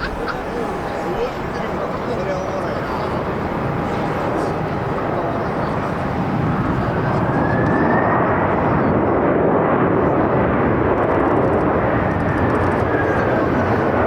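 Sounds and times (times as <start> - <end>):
jet airliner flying past: 0.0 - 14.0.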